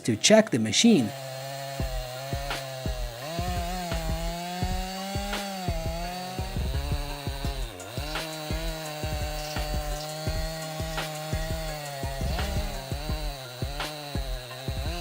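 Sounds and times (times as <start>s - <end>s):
chainsaw engine running: 0.0s - 15.0s
sharp ticks: 0.0s - 15.0s.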